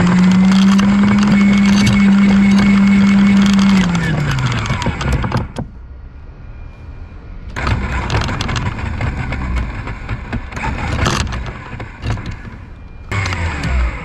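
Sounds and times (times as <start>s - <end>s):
electric anchor windlass running: 0.0s - 5.8s, 7.5s - 14.0s.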